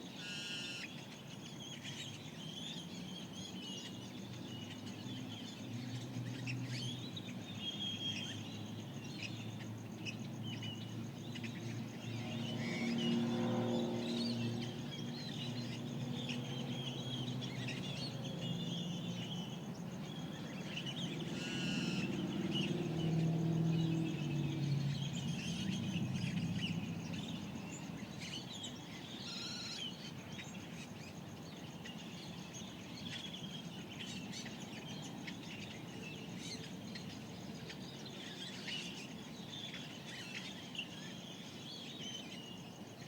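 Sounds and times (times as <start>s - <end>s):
birds chirping and warbling: 0.2s - 43.0s.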